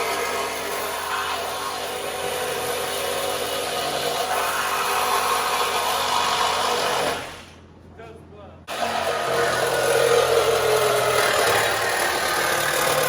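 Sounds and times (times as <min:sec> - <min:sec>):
reciprocating saw cutting steel: 0:00.0 - 0:07.6, 0:08.7 - 0:13.0.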